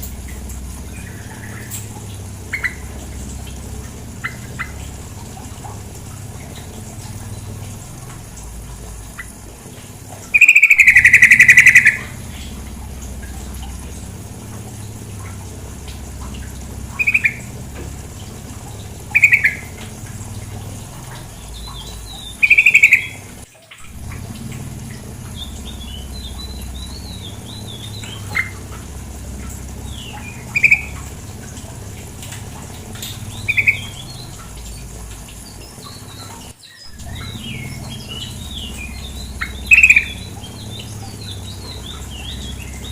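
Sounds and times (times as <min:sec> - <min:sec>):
bulbul calls: 0:00.0 - 0:42.9
faint high bird chatter: 0:00.0 - 0:42.9
flowing water rushing: 0:00.0 - 0:42.9.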